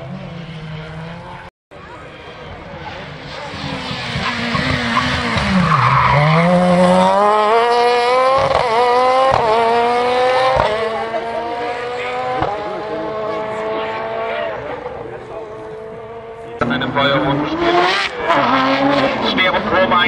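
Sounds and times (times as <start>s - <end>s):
rally car engine accelerating: 2.2s - 20.0s.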